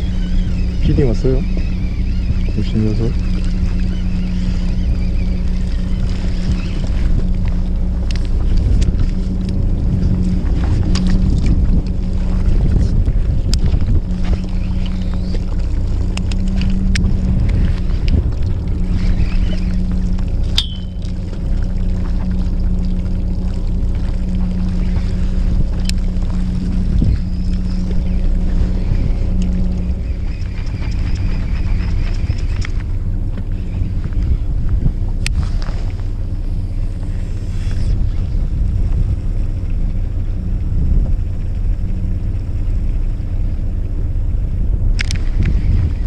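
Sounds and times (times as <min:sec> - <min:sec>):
boat engine running: 0:00.0 - 0:46.0.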